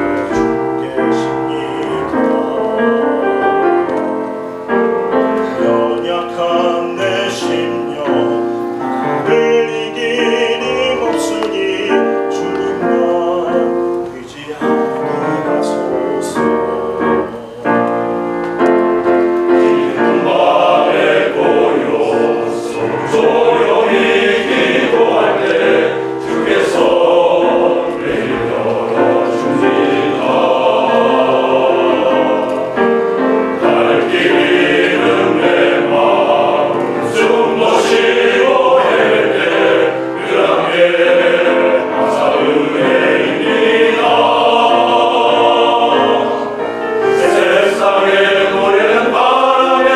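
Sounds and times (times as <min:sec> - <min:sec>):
piano accompaniment: 0:00.0 - 0:49.9
vocal ensemble singing in parts: 0:00.0 - 0:49.9.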